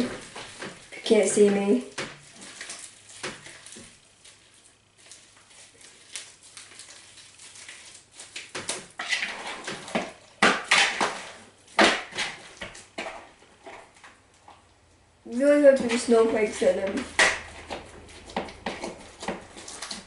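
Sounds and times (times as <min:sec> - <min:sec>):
slime squelching and crackling: 0:00.0 - 0:20.0.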